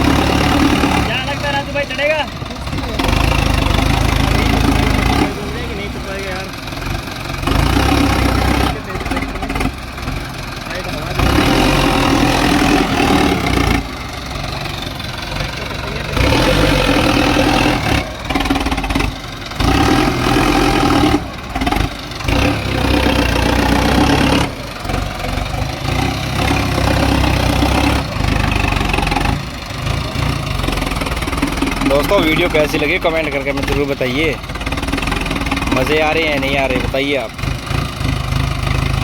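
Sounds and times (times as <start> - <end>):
tractor diesel engine straining: 0.0 - 39.0.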